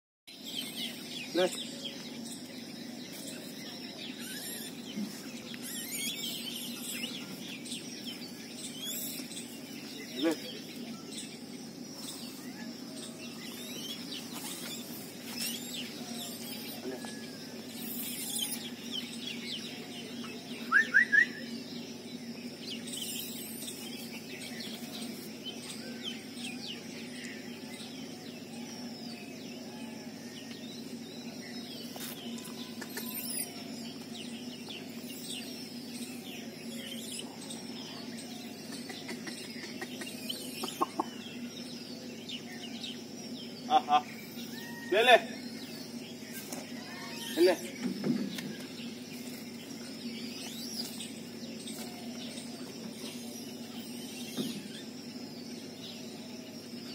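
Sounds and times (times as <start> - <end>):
birds chirping: 0.3 - 56.9
steady low hum: 0.3 - 56.9.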